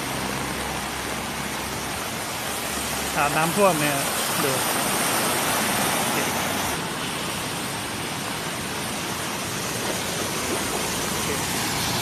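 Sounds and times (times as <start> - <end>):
water rushing on a flooded street: 0.0 - 12.0.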